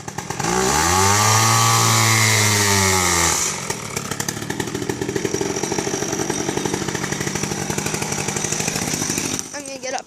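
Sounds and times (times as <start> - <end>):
chainsaw revving and idling: 0.0 - 10.0.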